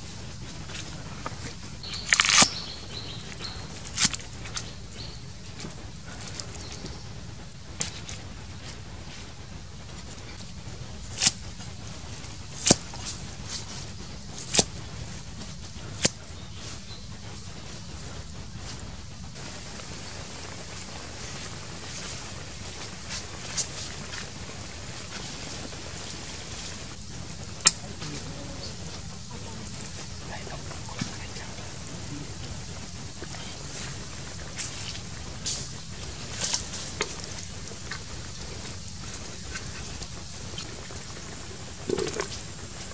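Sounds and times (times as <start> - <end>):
broth bubbling: 0.0 - 42.9
sharp pops and crackles: 0.0 - 42.9.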